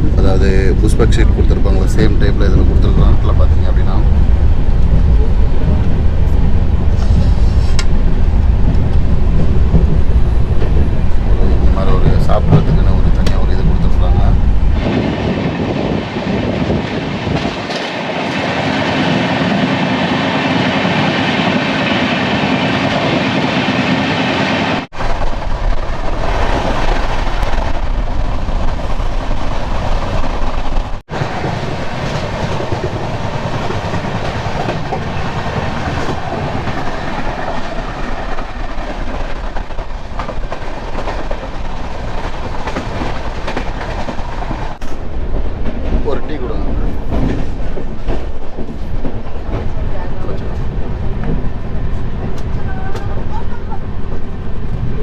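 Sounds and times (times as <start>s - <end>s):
train running along track: 0.0s - 55.0s.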